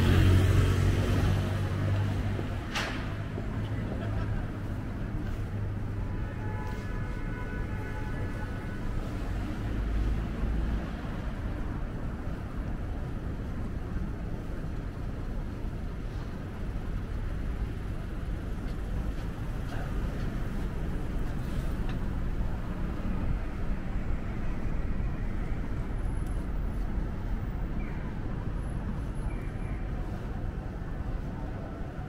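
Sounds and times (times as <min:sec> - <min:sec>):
street traffic rumble and hiss: 0:00.0 - 0:32.0.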